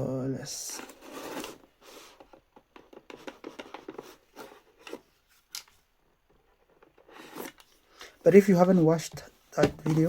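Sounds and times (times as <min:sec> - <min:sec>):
box being handled and opened: 0:00.4 - 0:10.0.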